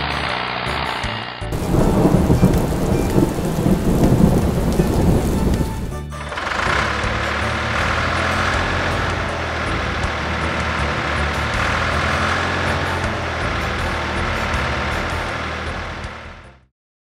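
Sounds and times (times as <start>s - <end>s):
heavy truck engine running: 0.0s - 16.7s.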